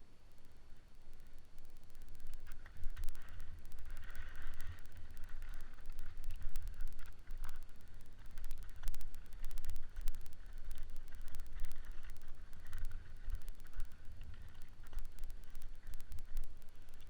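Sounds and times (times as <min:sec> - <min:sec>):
sharp clicks and crackles: 0:00.3 - 0:17.0.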